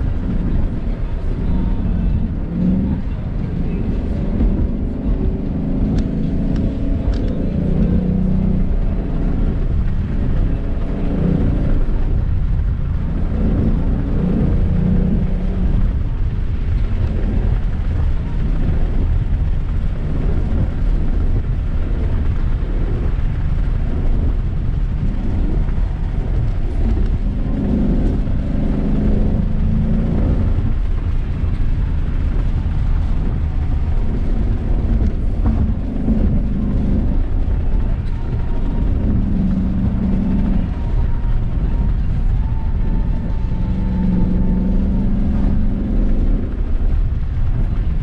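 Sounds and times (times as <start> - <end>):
car engine pulling hard: 0.0 - 48.0
road and wind rumble: 0.0 - 48.0.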